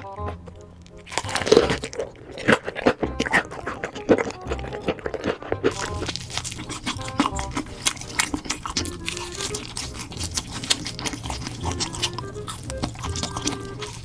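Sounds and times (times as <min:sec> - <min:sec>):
background music: 0:00.0 - 0:14.0
crunching fried chicken: 0:00.0 - 0:14.0.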